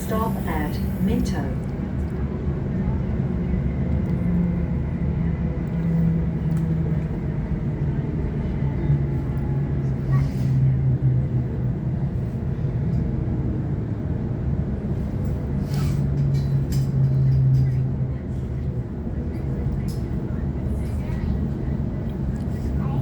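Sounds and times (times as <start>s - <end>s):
train interior rumble: 0.0s - 23.0s.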